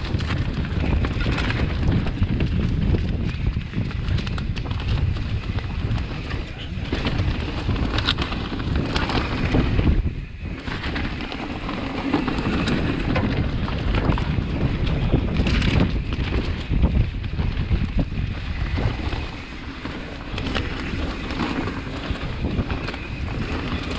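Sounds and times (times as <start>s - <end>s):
bike clicks and rattles: 0.0s - 23.9s
tyres rolling on dirt: 0.0s - 23.9s
wind buffeting microphone: 0.0s - 23.9s.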